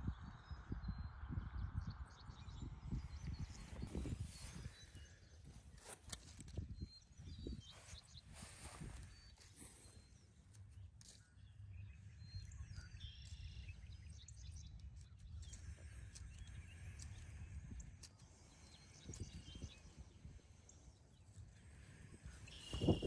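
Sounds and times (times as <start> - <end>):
faint bird chirps: 0.0 - 23.0.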